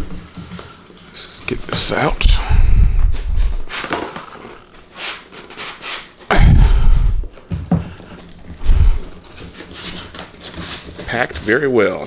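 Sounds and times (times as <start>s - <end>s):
cardboard rustling and scraping: 0.0s - 12.0s.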